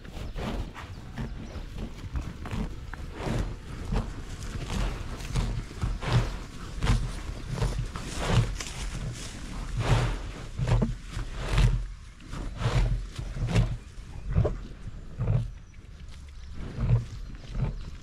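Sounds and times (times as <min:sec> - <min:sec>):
cow breathing: 0:00.0 - 0:18.0
cow tearing and munching grass: 0:00.0 - 0:18.0.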